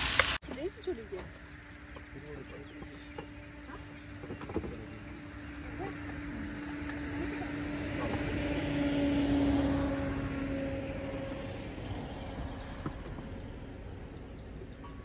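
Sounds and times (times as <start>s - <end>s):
passing vehicle engine hum: 0.7s - 15.0s.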